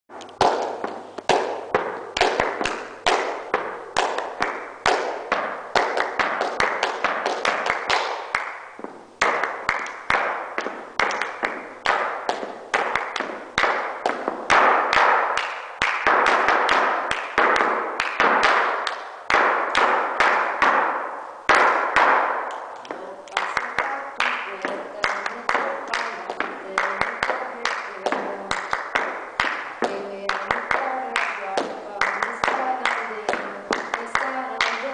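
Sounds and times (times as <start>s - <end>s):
flamenco shoes tapping wooden board: 0.1s - 34.9s.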